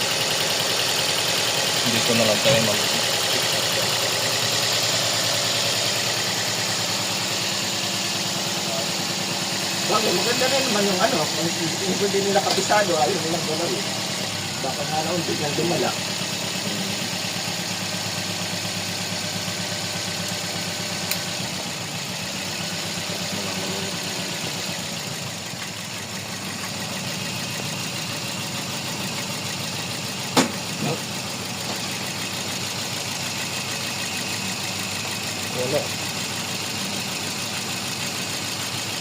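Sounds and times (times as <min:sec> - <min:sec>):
car engine idling with misfire: 0:00.0 - 0:39.0.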